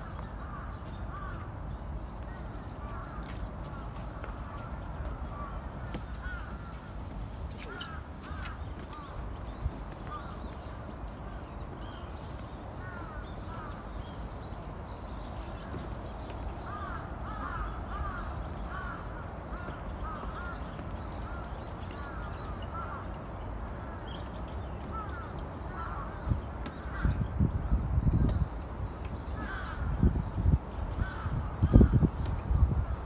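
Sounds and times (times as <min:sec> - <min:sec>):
birds calling: 0:00.0 - 0:33.0.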